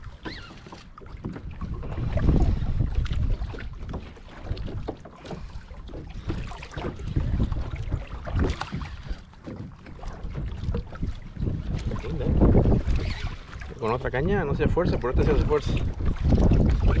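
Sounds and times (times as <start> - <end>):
water splashing against kayak hull: 0.0 - 17.0
wind buffeting microphone: 1.2 - 9.2, 9.8 - 17.0.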